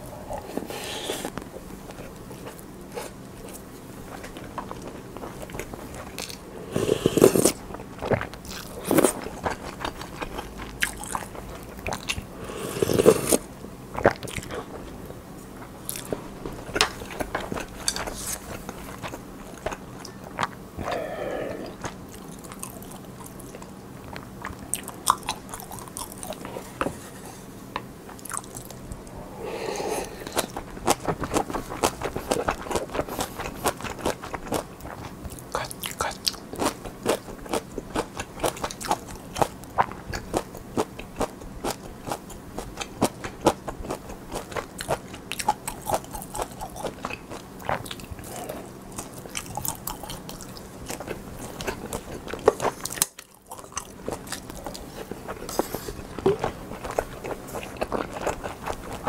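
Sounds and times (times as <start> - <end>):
person chewing and crunching food: 0.0 - 59.0.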